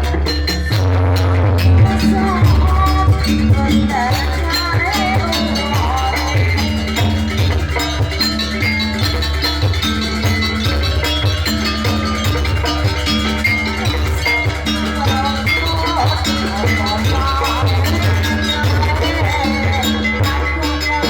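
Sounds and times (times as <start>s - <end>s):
drums driving beat: 0.0s - 21.0s
sustained pitched accompaniment: 0.0s - 21.0s
wavering melody line: 0.0s - 21.0s.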